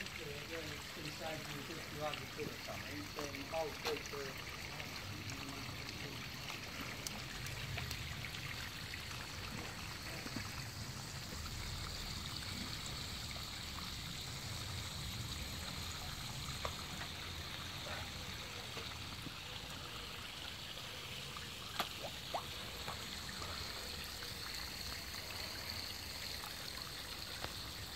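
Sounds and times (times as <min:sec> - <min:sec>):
water trickling into pond: 0:00.0 - 0:27.9.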